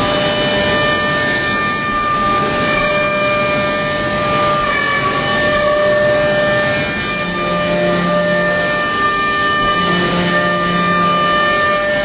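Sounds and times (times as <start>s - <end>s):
milling cutter whine: 0.0s - 12.0s.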